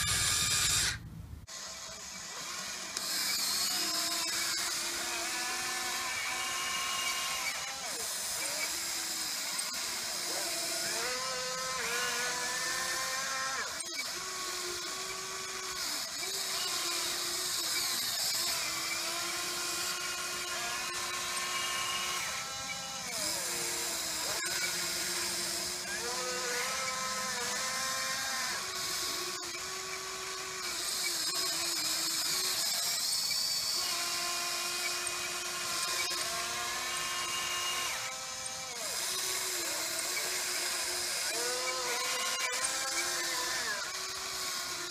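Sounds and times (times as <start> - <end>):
toy excavator motors whining: 0.0 - 44.9.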